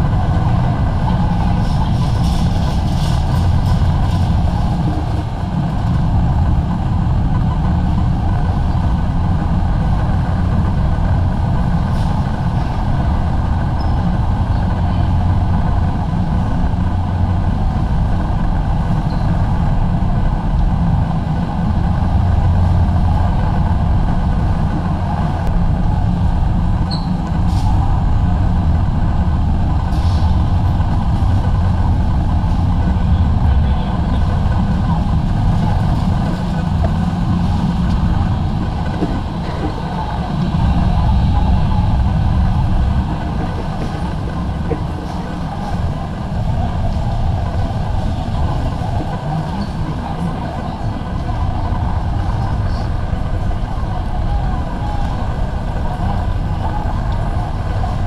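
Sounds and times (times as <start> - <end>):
ventilation fans droning: 0.0 - 58.0.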